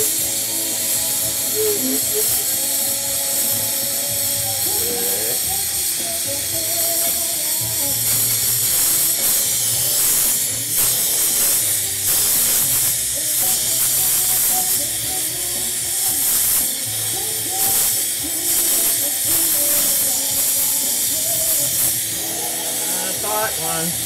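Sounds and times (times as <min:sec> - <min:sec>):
music playing: 0:00.0 - 0:24.0
torch flame hissing: 0:00.0 - 0:24.0.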